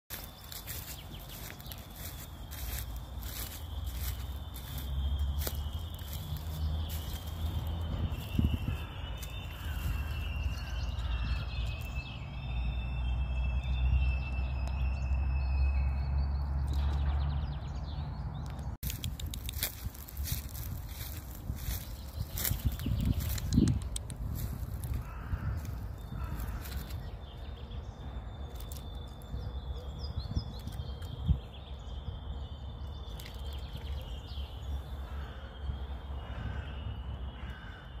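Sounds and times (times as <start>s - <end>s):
wind rumble on microphone: 0.5s - 12.9s, 13.5s - 37.7s.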